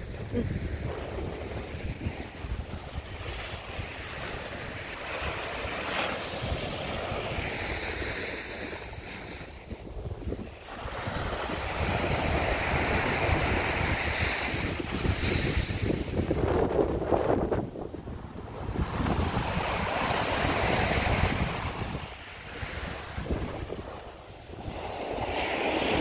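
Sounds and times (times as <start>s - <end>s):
small waves breaking on beach: 0.0s - 26.0s
wind rumbling on microphone: 0.0s - 26.0s.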